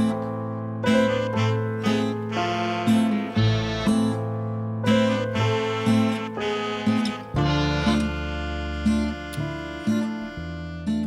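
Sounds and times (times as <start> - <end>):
acoustic guitar strumming: 0.9 - 4.2, 4.9 - 11.0.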